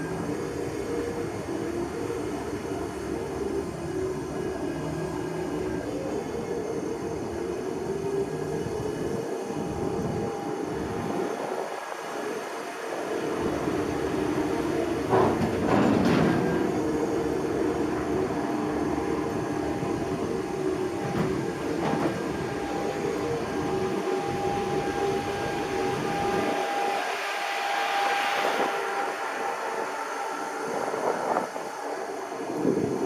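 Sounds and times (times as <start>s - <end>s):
road noise rumble: 0.0s - 33.0s
vehicle mechanical hum: 0.0s - 33.0s.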